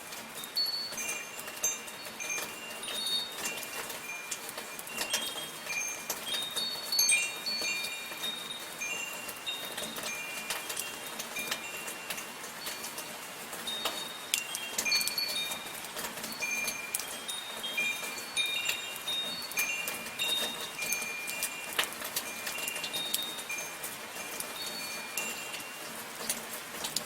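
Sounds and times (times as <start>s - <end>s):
raindrop clicks: 0.0s - 27.0s
soft rain hiss: 0.0s - 27.0s
wind chimes ringing: 0.2s - 26.3s.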